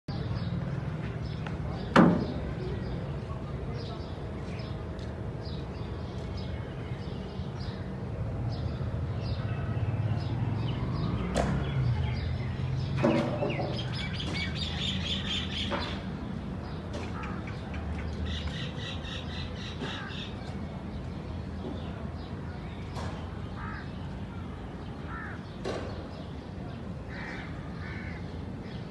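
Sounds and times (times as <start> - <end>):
birds chirping: 0.1 - 28.9.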